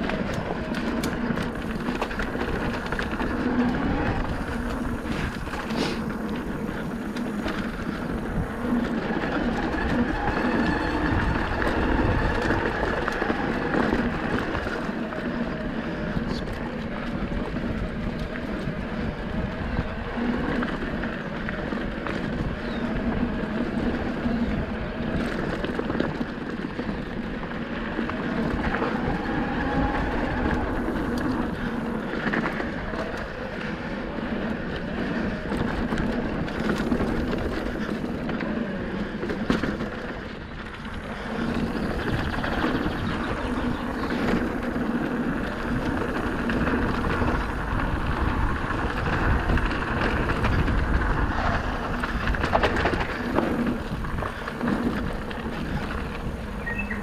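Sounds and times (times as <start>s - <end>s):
bike clicks and rattles: 0.0s - 57.0s
tyres rolling on gravel: 0.0s - 57.0s.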